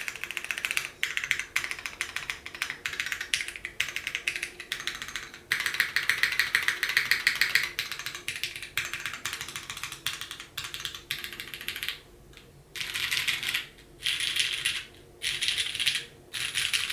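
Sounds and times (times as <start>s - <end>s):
fast mechanical keyboard typing: 0.0s - 12.0s, 12.8s - 16.9s.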